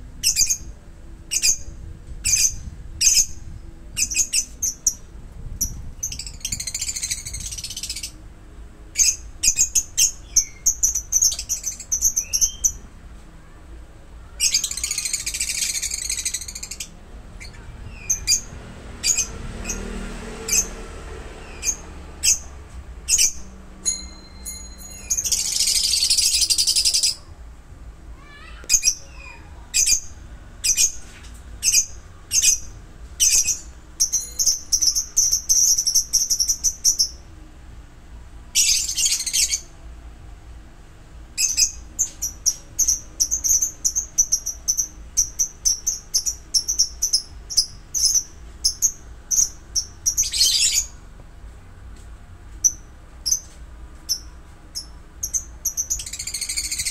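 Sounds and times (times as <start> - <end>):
lovebirds chirping and twittering: 0.1 - 13.0, 14.2 - 27.4, 28.2 - 37.5, 38.5 - 39.9, 41.3 - 51.2, 52.5 - 56.9.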